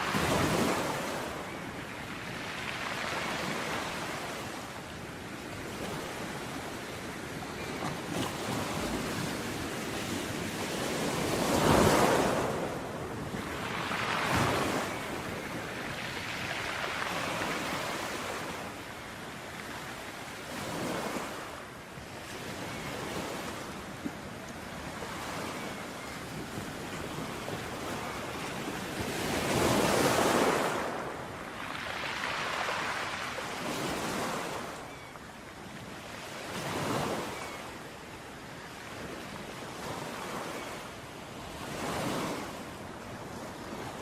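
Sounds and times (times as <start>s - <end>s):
ocean waves breaking: 0.0s - 37.9s
light wind: 0.0s - 44.0s.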